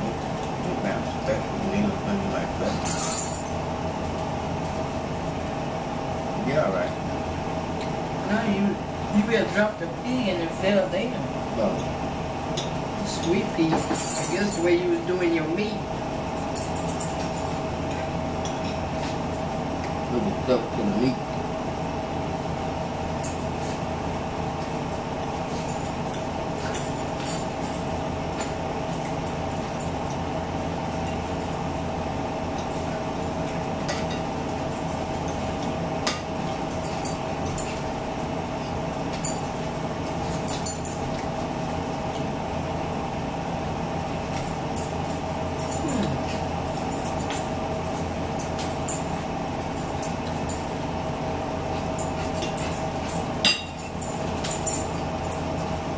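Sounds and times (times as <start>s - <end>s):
mechanical hum: 0.0s - 55.9s.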